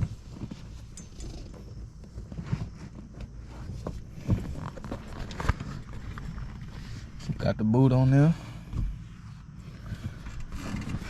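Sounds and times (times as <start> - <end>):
rubber boot rubbing and creaking: 0.0 - 7.4, 8.4 - 11.0.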